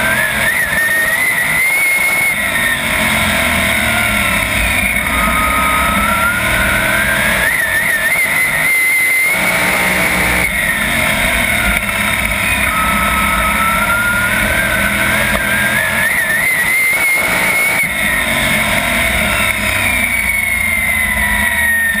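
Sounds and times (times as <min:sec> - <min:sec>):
race car engine: 0:00.0 - 0:22.0.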